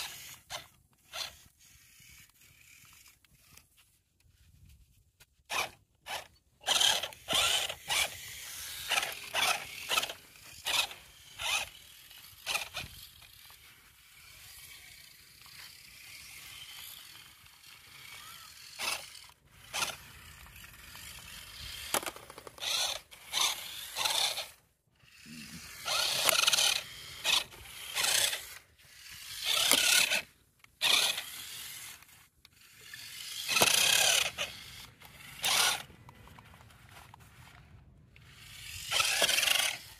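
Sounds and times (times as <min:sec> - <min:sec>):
toy car motors whirring: 0:00.0 - 0:39.9.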